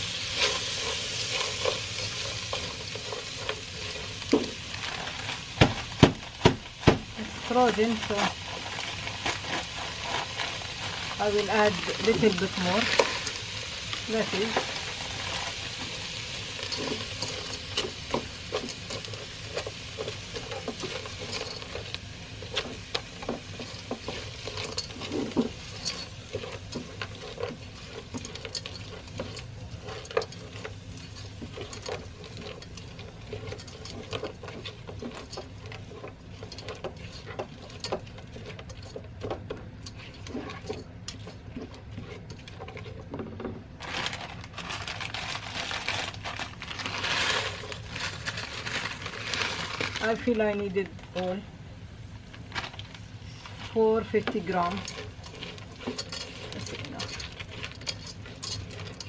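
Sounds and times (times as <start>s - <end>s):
spatula scraping a pan: 0.0s - 6.4s, 7.2s - 44.2s, 53.3s - 59.0s
vegetables sizzling in a frying pan: 0.0s - 59.0s.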